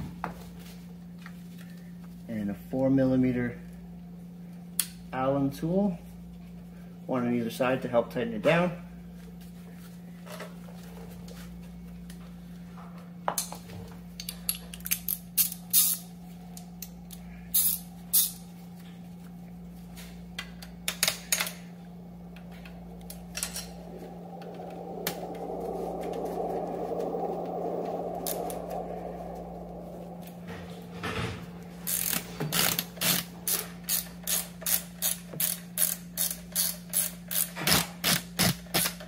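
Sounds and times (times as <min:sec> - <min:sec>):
steady low hum: 0:00.0 - 0:37.4.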